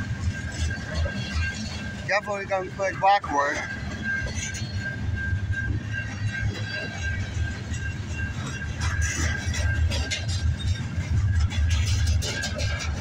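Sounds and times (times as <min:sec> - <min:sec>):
train cars rolling past: 0:00.0 - 0:13.0.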